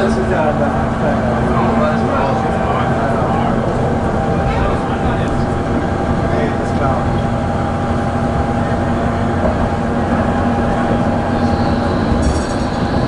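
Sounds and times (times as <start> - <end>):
tram rumbling on track: 0.0 - 13.0
high wheel squeal: 1.5 - 13.0.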